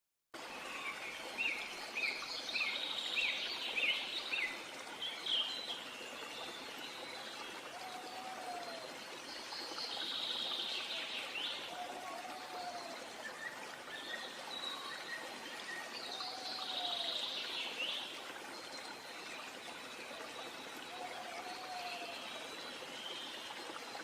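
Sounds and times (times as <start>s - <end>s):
running water rushing: 0.4s - 24.0s.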